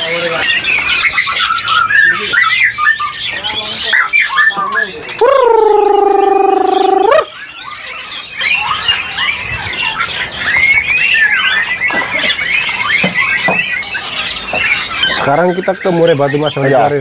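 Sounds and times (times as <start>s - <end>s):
bird squawk: 0.0s - 17.0s
caged birds chirping: 0.0s - 17.0s.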